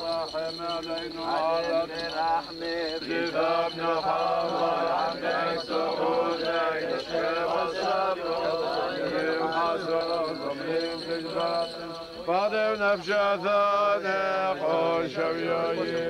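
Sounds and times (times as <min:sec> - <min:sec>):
clergy chanting together: 0:00.0 - 0:16.0.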